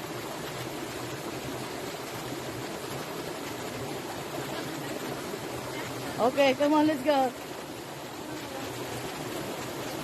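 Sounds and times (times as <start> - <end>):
creek water flowing over rocks: 0.0 - 10.0.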